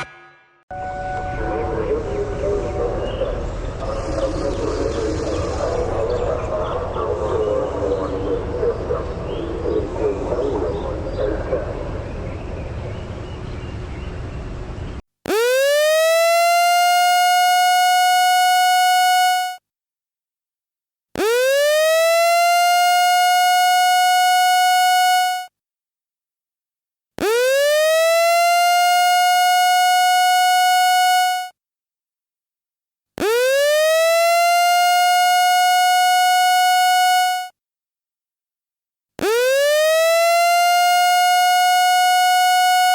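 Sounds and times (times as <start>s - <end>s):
warning siren wailing: 0.7s - 19.6s, 21.2s - 25.4s, 27.2s - 31.4s, 33.2s - 37.5s, 39.2s - 42.9s.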